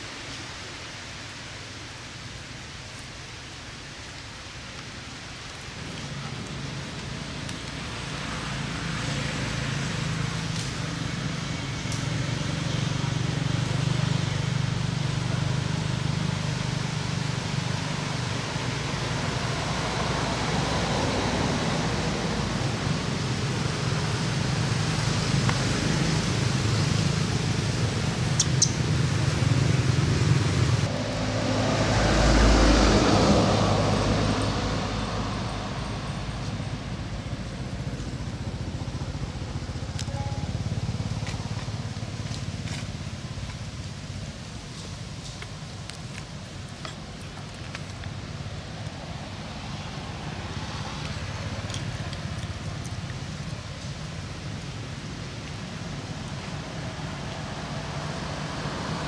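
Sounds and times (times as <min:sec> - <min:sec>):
traffic hum: 0:00.0 - 0:59.0
vehicle passing: 0:06.0 - 0:44.2, 0:48.2 - 0:55.1, 0:55.8 - 0:59.0.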